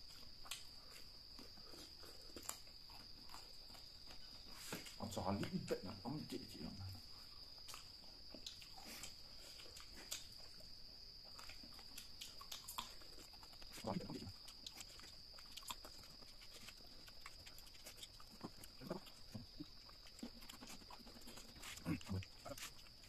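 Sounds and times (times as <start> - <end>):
people chewing with mouth clicks: 0.0 - 5.8, 7.0 - 23.0.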